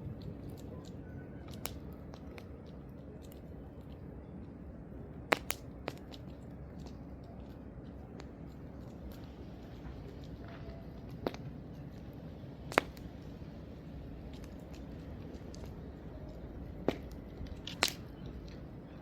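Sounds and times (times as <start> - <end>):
campfire wood crackling: 0.0 - 19.0.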